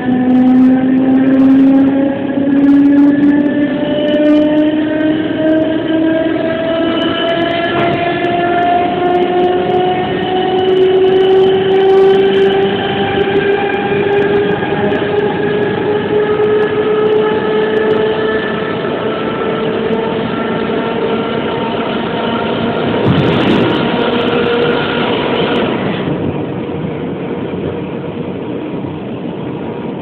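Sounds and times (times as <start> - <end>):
electric train motors whining: 0.0 - 29.7
wheels running on track: 0.0 - 30.0.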